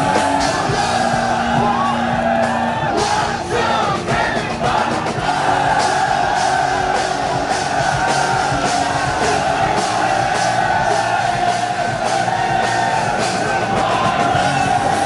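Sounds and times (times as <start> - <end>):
drum and cymbal beat: 0.0 - 15.0
live rock music: 0.0 - 15.0.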